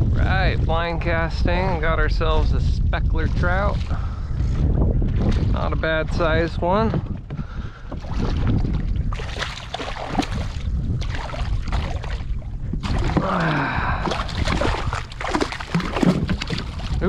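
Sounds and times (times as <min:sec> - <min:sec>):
water splashing and sloshing: 0:03.0 - 0:17.0.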